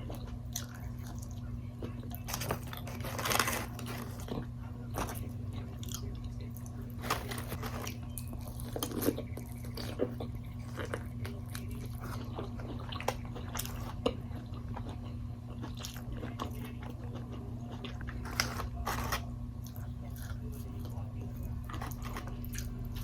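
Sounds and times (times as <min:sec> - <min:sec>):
person chewing crunchy food: 0:00.0 - 0:23.0
steady low hum: 0:00.0 - 0:23.0.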